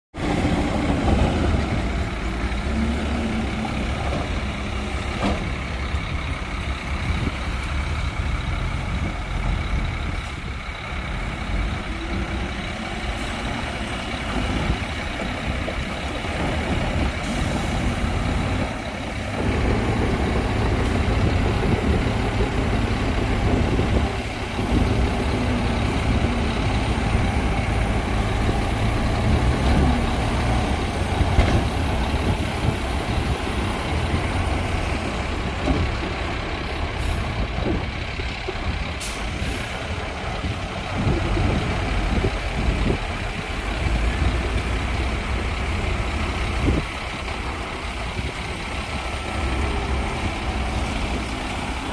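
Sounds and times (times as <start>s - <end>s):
diesel engine running: 0.2s - 51.9s.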